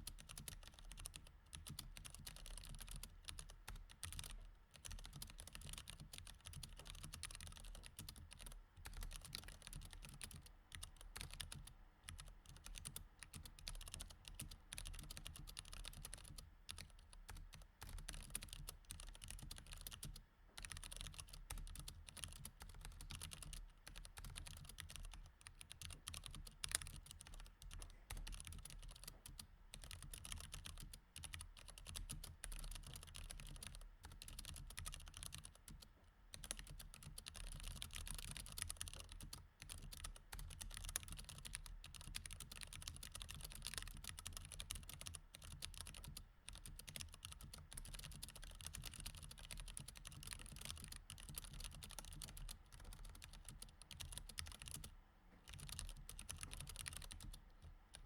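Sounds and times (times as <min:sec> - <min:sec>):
mechanical keyboard typing: 0:00.0 - 0:54.9, 0:55.5 - 0:58.0
faint low hum: 0:00.0 - 0:58.0.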